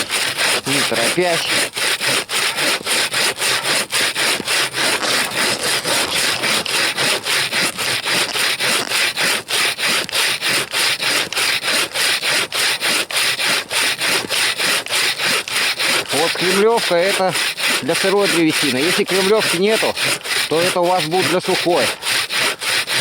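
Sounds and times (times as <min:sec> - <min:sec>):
bow saw cutting log: 0:00.0 - 0:23.0.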